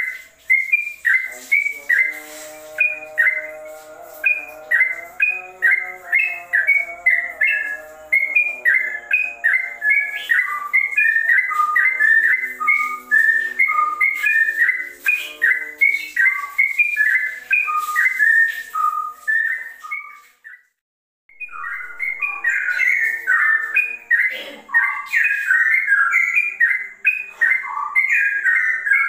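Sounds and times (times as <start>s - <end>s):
bulbul singing whistled notes: 0.0s - 20.7s, 21.3s - 29.0s.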